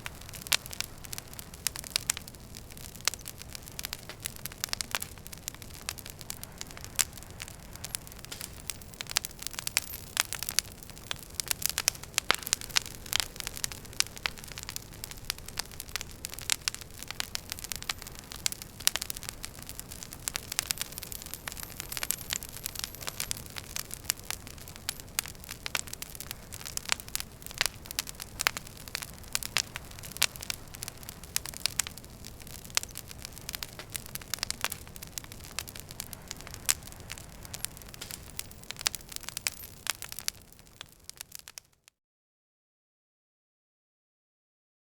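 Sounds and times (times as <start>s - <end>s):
low steady hiss: 0.0s - 41.5s
wood fire crackling and popping: 0.0s - 41.8s.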